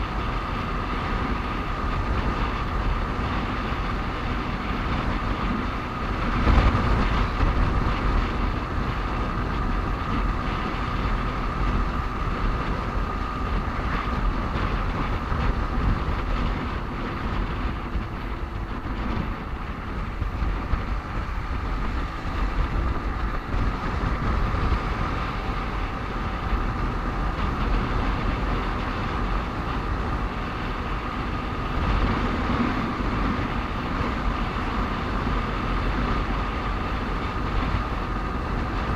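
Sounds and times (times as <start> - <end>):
motorcycle engine and road rumble: 0.0 - 38.9.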